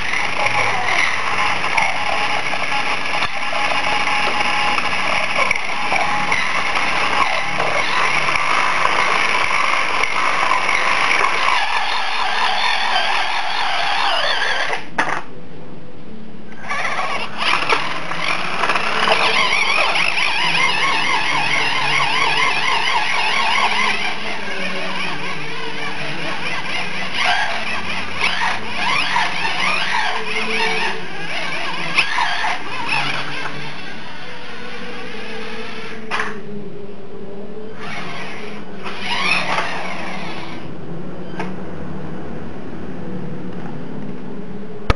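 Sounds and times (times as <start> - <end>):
small electric motor whining: 0.0 - 14.9, 16.6 - 36.4, 37.7 - 40.7.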